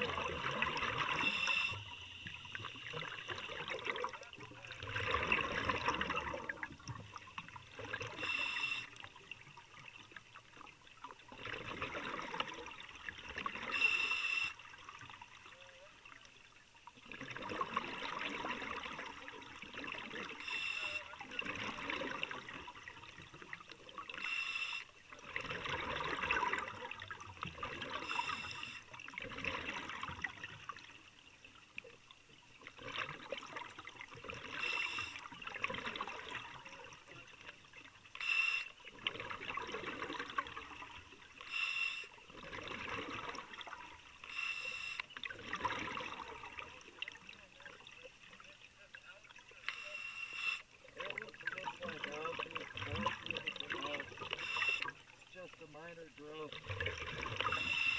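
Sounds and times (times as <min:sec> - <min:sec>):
underwater bubbling and gurgling: 0:00.0 - 0:57.9.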